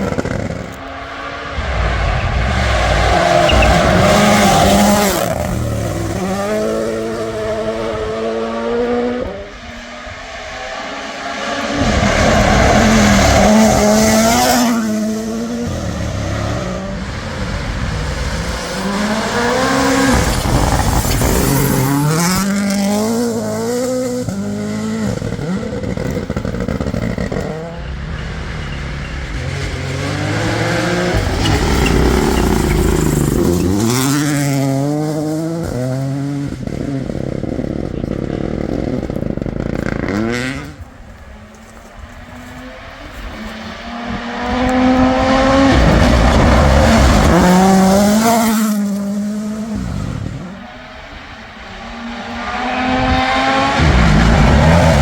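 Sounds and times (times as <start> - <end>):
rally cars passing at full throttle: 0.0 - 55.0.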